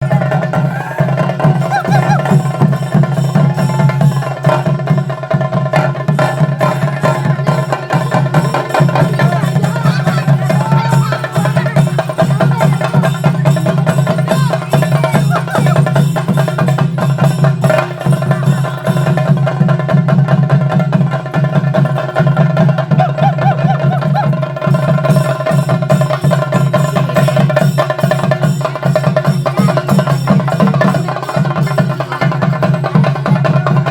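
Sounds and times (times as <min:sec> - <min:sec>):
drums in fast continuous beat: 0:00.0 - 0:33.9.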